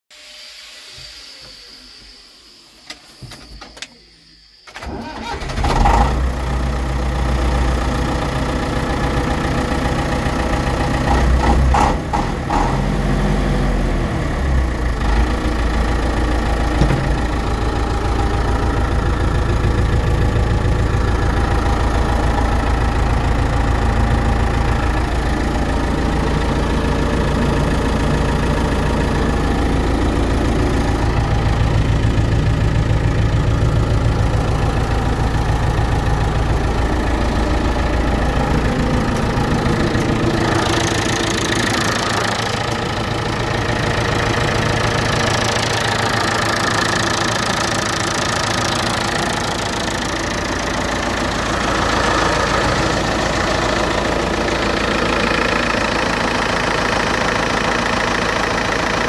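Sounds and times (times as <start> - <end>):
tractor diesel engine idling: 4.7 - 59.0.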